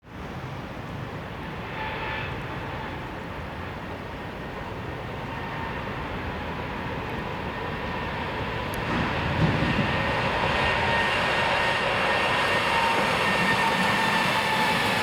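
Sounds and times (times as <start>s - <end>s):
train rumble: 0.1s - 15.0s.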